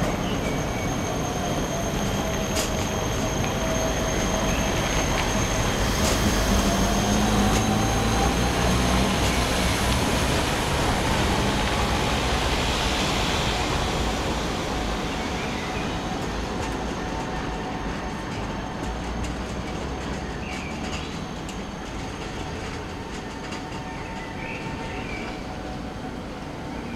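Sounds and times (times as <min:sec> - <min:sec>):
tram wheels squealing on rails: 0:00.0 - 0:26.9.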